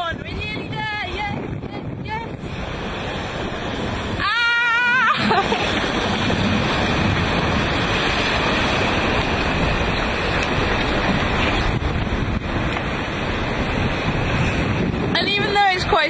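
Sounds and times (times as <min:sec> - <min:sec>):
rushing sea: 0:00.0 - 0:16.0
strong wind: 0:00.0 - 0:16.0
wind buffeting microphone: 0:00.0 - 0:16.0.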